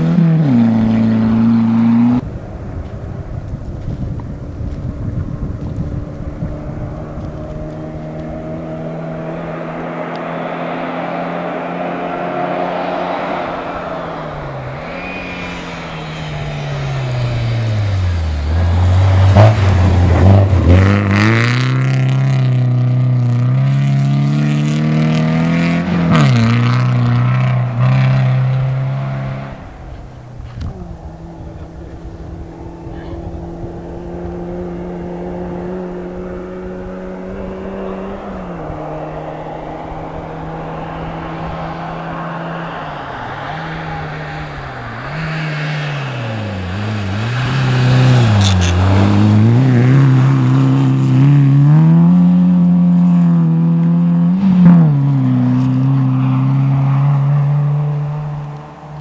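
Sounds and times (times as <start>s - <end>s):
rally car engine revving: 0.0s - 2.3s, 4.5s - 59.0s.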